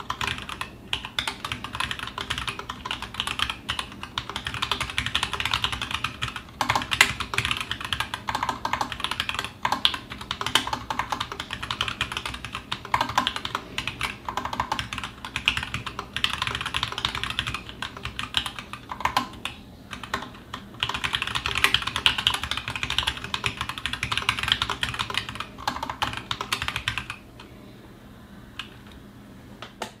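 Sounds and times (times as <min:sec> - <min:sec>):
mechanical keyboard typing: 0:00.0 - 0:27.2.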